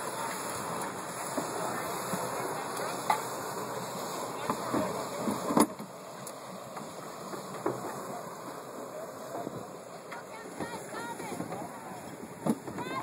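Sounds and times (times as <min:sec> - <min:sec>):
choppy lake water: 0:00.0 - 0:13.0
wind: 0:00.0 - 0:13.0.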